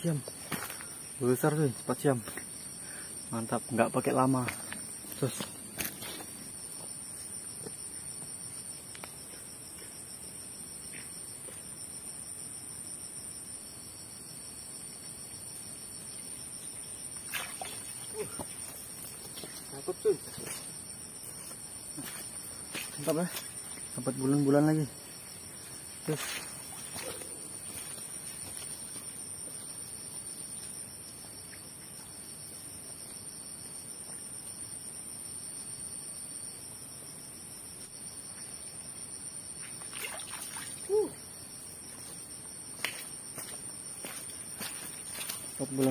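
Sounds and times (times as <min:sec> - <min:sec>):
high-pitched insect chorus: 0:00.0 - 0:45.9.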